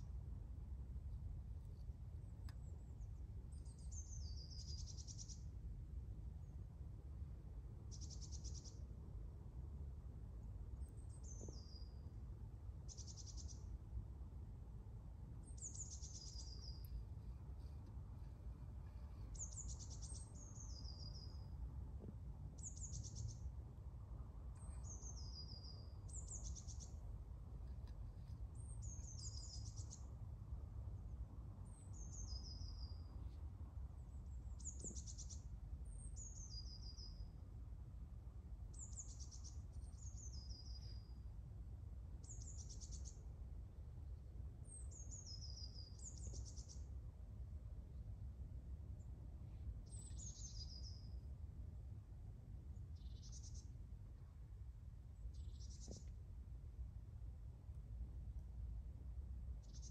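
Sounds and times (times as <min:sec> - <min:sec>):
low background rumble: 0:00.0 - 0:59.9.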